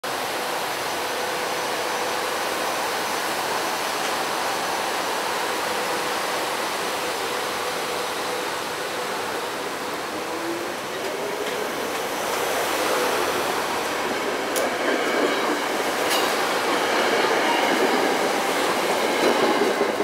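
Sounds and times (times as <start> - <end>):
train rolling past: 0.0 - 20.0.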